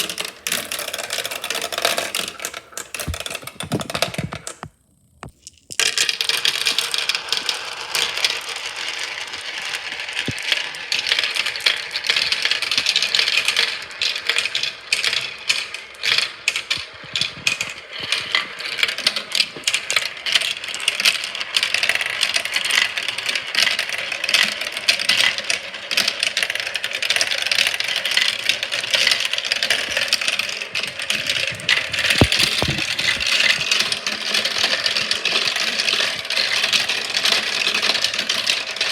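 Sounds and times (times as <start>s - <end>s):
marbles rolling and clicking: 0.0s - 38.9s.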